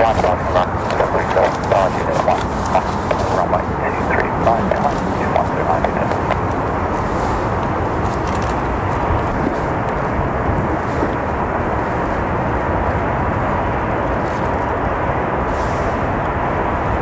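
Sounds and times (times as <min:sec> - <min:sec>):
faint steady whine: 0:00.0 - 0:17.0
jet engines roaring: 0:00.0 - 0:17.0.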